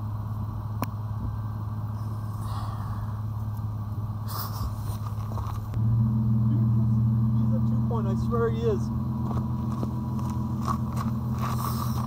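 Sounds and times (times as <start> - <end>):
vehicle engine idling hum: 0.0 - 12.0.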